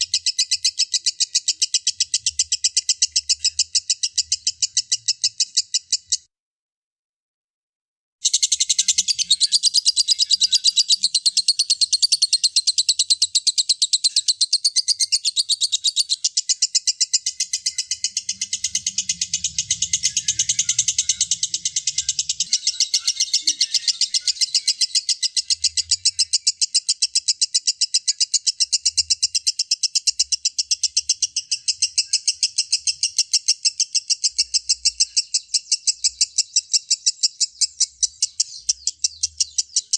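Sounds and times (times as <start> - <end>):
bird chattering trill: 0.0 - 6.3, 8.2 - 39.9.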